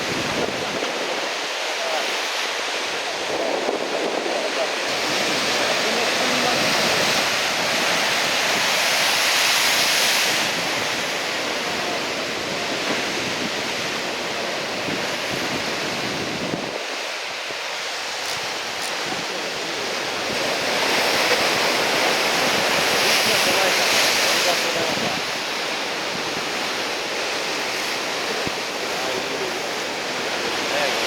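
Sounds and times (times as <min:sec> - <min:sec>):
wind noise on microphone: 0:00.0 - 0:01.6, 0:02.3 - 0:29.0
heavy surf breaking: 0:00.0 - 0:31.0.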